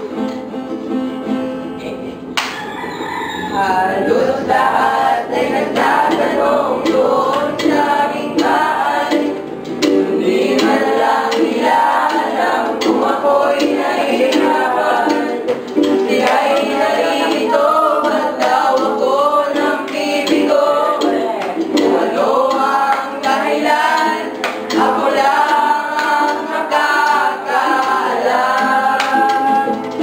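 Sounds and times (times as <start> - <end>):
strummed ukulele: 0.0 - 2.7, 3.6 - 30.0
group of young voices singing: 3.5 - 30.0.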